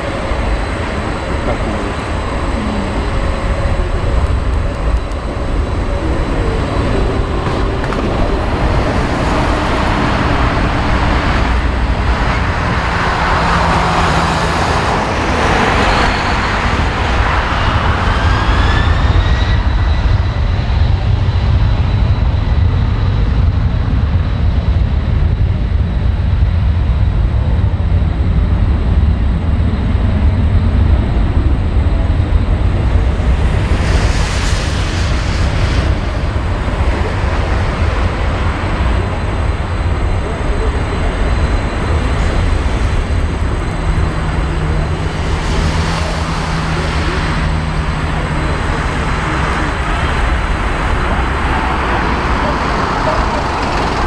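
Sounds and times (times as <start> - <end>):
jet engine whine rising: 0.0 - 54.0
jet engines rumbling: 0.0 - 54.0.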